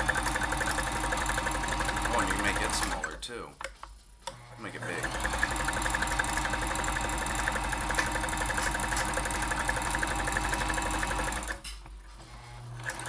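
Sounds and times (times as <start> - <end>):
sewing machine running: 0.0 - 3.2, 4.3 - 11.6, 12.3 - 13.0.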